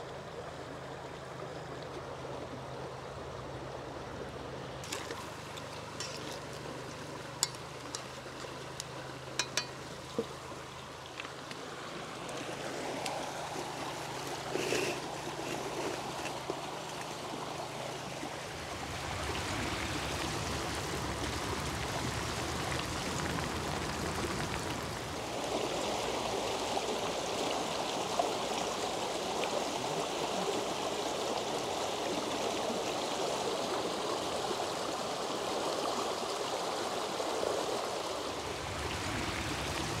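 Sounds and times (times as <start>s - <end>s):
stream running over stones: 0.0s - 40.0s.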